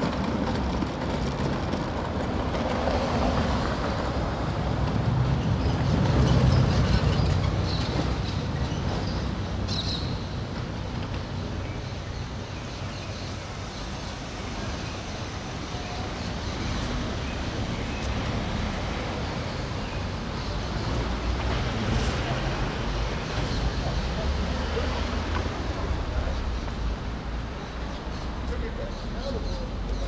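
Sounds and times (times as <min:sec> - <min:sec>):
passing vehicles rumble: 0:00.0 - 0:30.0.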